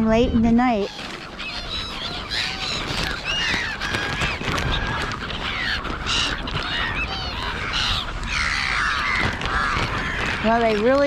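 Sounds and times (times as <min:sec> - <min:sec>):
gulls and crows calling: 0:00.0 - 0:11.0.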